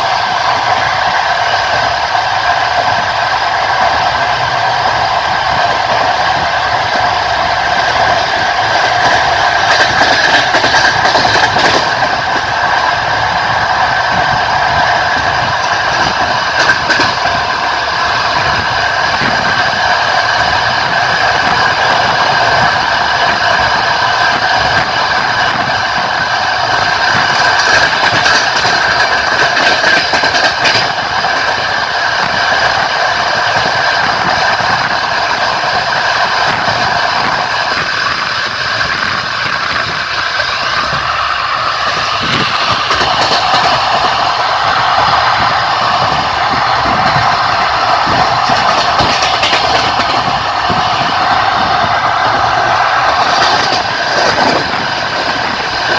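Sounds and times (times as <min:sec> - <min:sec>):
train wheels rolling on rails: 0:00.0 - 0:55.9.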